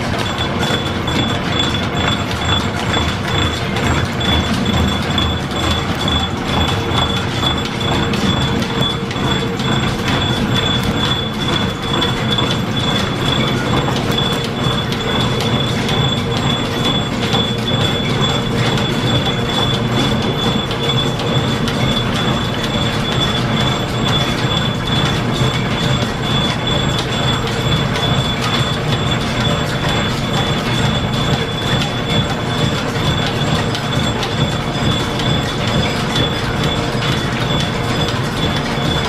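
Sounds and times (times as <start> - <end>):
rapid clicking: 0.0 - 39.0
high wheel squeal: 0.1 - 39.0.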